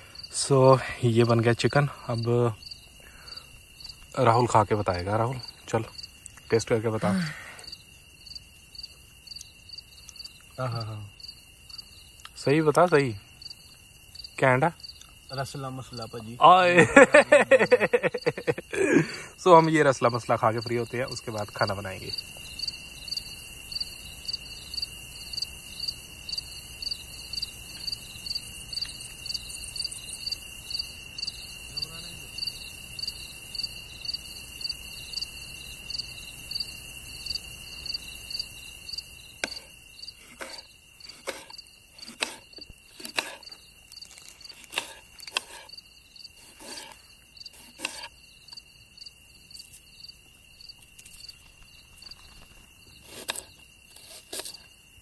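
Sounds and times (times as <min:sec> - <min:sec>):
crickets chirping: 0:00.0 - 0:55.0
high insect trill: 0:00.0 - 0:55.0.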